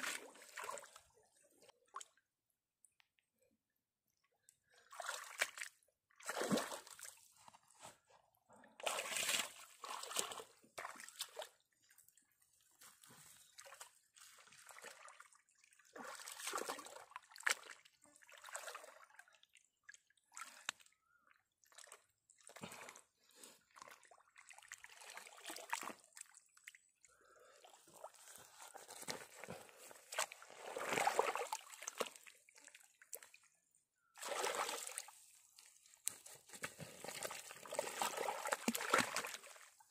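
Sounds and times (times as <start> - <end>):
muddy water sloshing and splashing: 0.0 - 2.2, 4.7 - 39.9.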